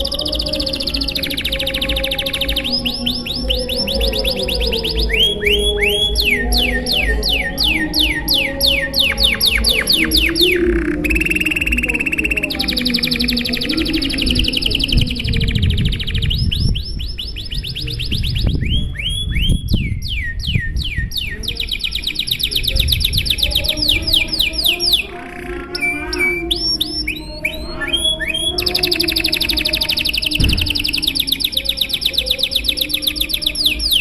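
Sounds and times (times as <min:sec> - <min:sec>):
canary singing trills: 0:00.0 - 0:34.0.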